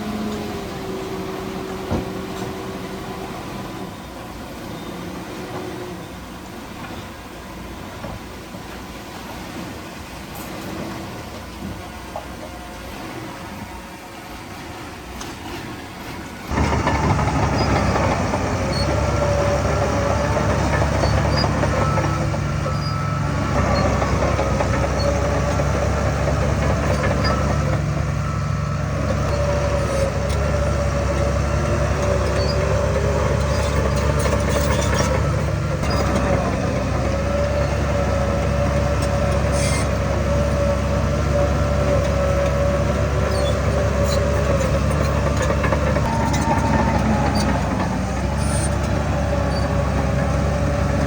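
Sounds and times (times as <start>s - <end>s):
heavy diesel engine under load: 0.0s - 51.0s.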